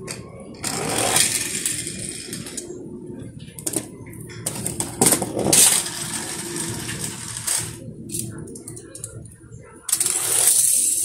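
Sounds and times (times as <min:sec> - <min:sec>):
toy cars rolling on concrete: 0:00.1 - 0:02.8, 0:03.6 - 0:09.2, 0:09.8 - 0:11.0.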